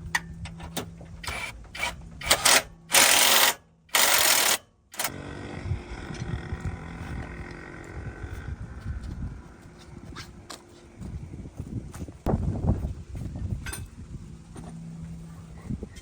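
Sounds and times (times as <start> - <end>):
low hum: 0.0 - 4.1, 4.9 - 16.0.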